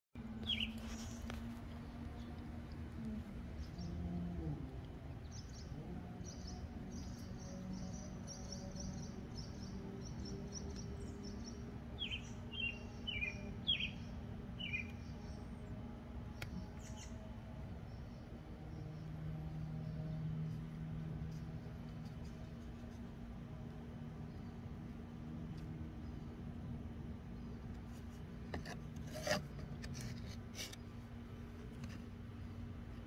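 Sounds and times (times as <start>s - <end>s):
songbirds chirping: 0.2s - 33.0s
steady low hum: 0.2s - 33.0s.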